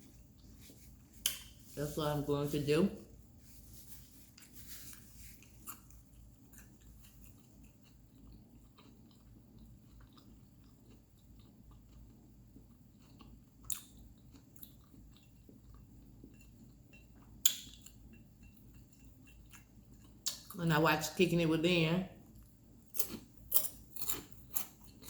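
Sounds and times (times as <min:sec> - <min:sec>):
person chewing food: 0:00.0 - 0:01.8, 0:03.0 - 0:20.6, 0:22.2 - 0:25.0.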